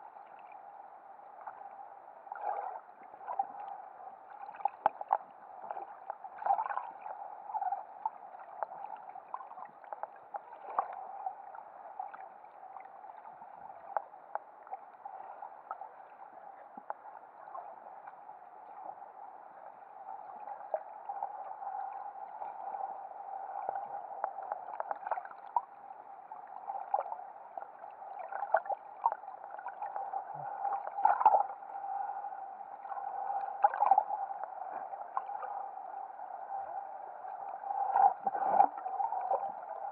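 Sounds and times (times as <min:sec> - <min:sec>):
muffled underwater hum: 0:00.0 - 0:39.9.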